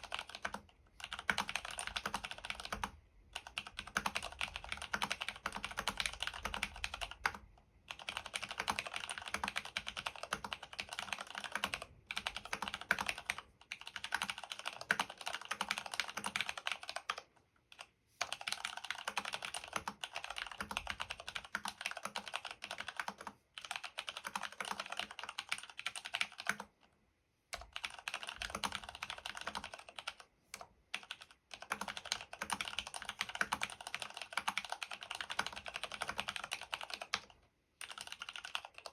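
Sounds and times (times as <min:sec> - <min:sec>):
typing on mechanical keyboard: 0:00.0 - 0:26.9, 0:27.5 - 0:38.9.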